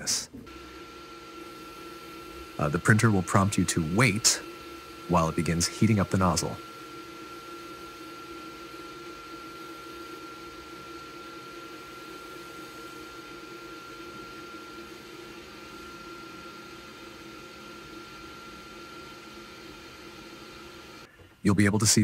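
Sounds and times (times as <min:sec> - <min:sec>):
thin high whine: 0:00.0 - 0:21.1
fans humming: 0:00.0 - 0:22.0.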